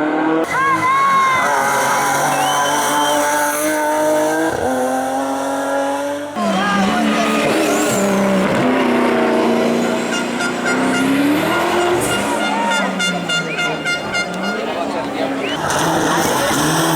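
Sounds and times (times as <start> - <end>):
race car engines at full throttle: 0.0 - 16.9.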